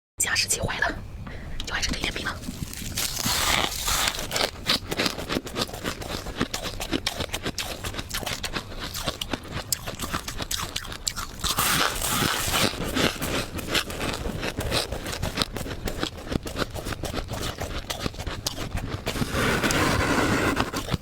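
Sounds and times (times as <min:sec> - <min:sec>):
chewing crunchy ice: 0:02.4 - 0:21.0.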